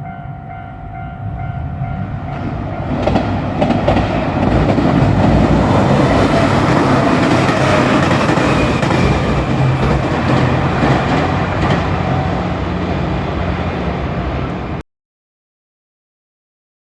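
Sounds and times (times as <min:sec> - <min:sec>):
diesel engine drone: 0:00.0 - 0:14.8
train wheels rumbling on rails: 0:00.0 - 0:14.8.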